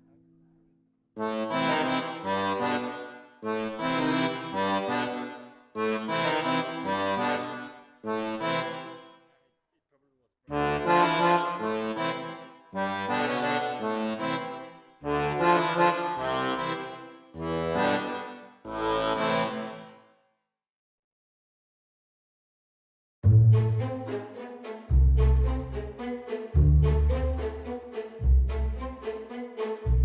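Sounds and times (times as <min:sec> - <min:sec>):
background music: 0:01.2 - 0:09.2, 0:10.5 - 0:19.9, 0:23.3 - 0:30.0.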